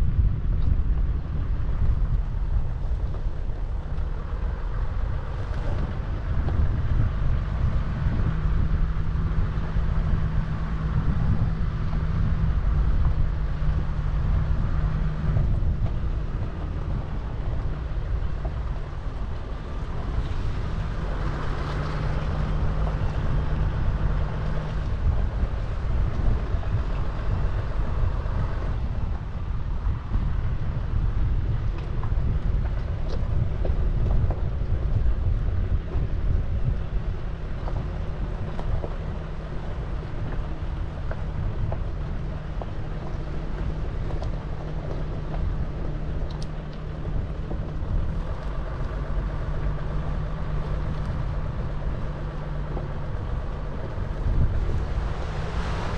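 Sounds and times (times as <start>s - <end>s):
vehicle engine rumble: 0.0s - 55.9s
wind buffeting microphone: 0.0s - 55.9s.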